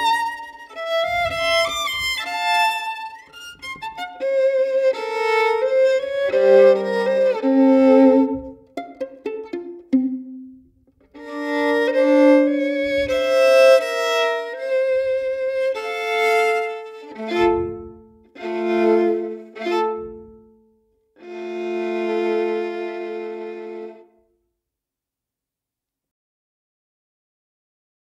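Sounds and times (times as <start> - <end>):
solo violin playing: 0.0 - 24.2.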